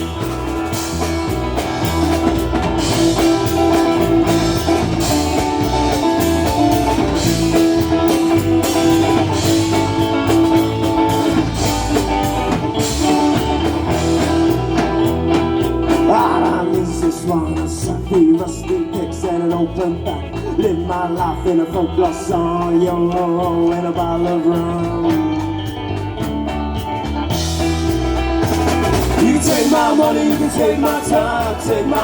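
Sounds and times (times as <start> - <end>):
drum kit beat: 0.0 - 32.0
plucked and strummed strings: 0.0 - 32.0.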